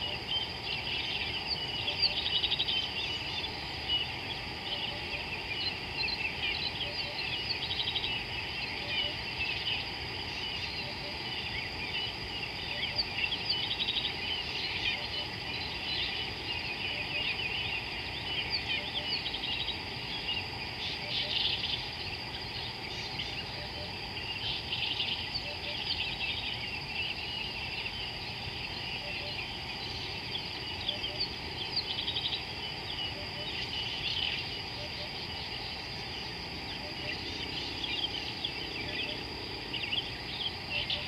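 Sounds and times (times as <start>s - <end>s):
steady background hiss: 0.0s - 41.0s.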